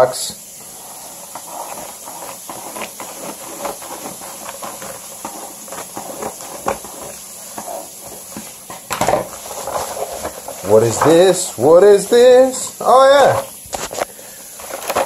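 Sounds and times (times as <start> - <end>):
paper crinkling: 0.7 - 15.0.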